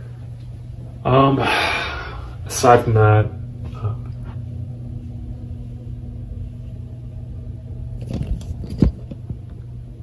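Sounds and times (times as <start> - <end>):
room background rumble and hum: 0.0 - 10.0.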